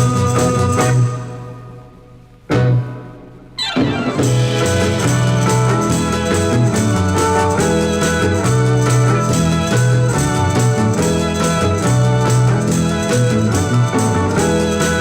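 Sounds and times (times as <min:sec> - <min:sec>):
bass and drums: 0:00.0 - 0:01.5, 0:02.4 - 0:15.0
electric guitar: 0:00.0 - 0:15.0
organ: 0:00.0 - 0:15.0.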